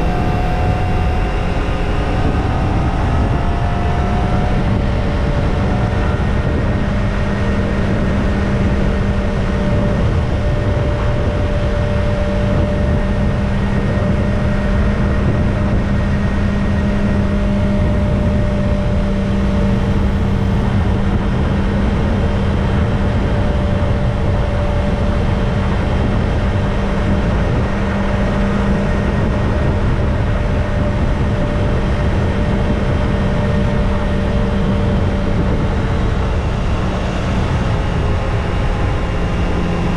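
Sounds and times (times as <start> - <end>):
motorcycle engine running steadily: 0.0 - 39.9
wind and road noise: 0.0 - 39.9.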